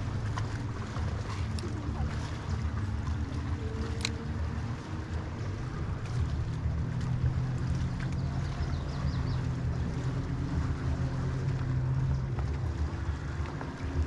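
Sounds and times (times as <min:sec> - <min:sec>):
low motor hum: 0:00.0 - 0:14.0
outdoor rumble: 0:00.0 - 0:14.0.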